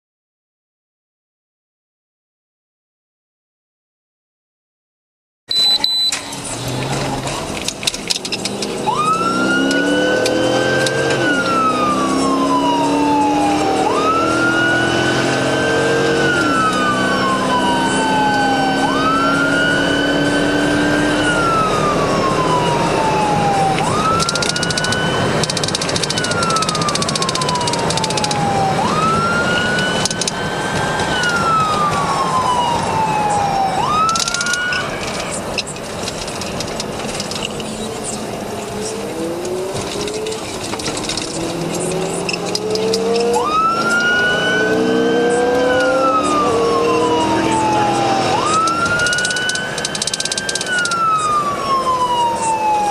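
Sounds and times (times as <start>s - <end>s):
police siren wailing: 6.1s - 52.9s
car engine revving: 6.2s - 52.9s.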